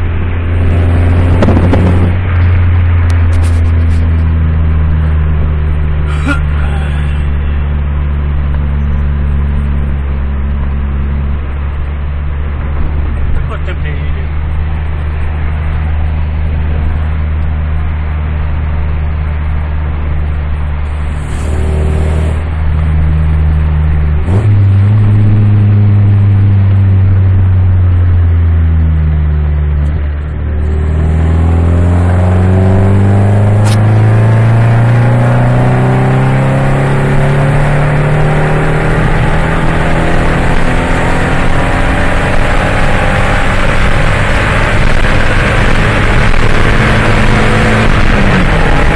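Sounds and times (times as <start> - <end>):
car engine and exhaust rumbling: 0.0 - 48.9.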